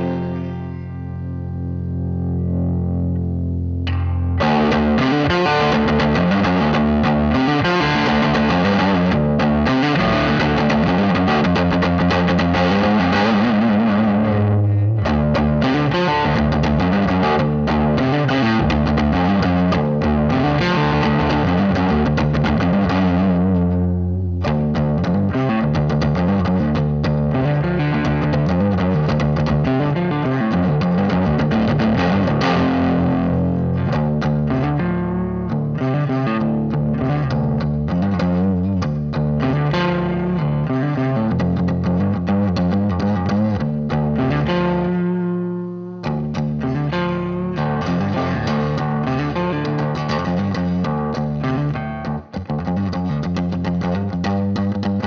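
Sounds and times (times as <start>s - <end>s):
heavily distorted electric guitar: 0.0s - 55.0s.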